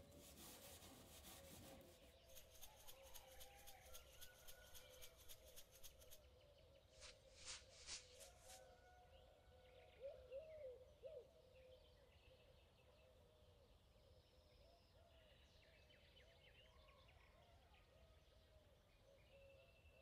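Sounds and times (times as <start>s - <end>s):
faint birdsong: 0.0s - 20.0s.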